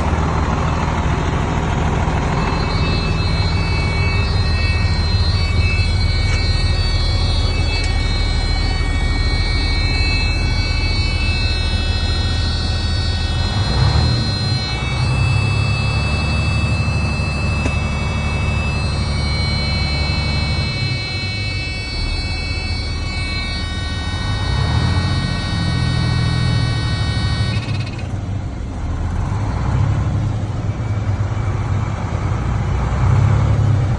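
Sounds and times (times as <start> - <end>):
high whine: 0.0 - 29.6
diesel truck engine running: 0.0 - 33.9.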